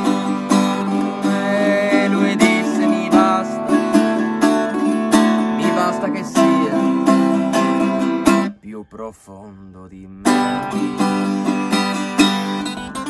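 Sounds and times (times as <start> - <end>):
acoustic guitar strumming: 0.0 - 8.6, 10.0 - 13.0.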